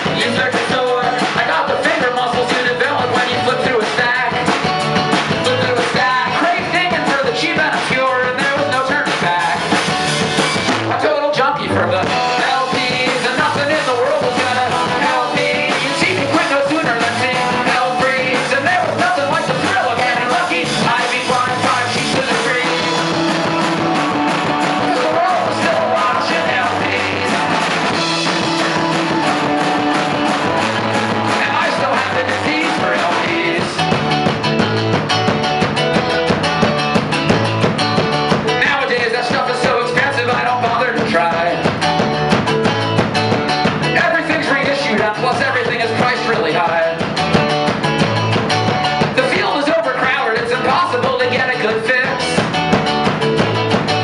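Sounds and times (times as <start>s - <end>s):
drum kit: 0.0s - 54.0s
electric bass: 0.0s - 54.0s
strummed acoustic guitar: 0.0s - 54.0s.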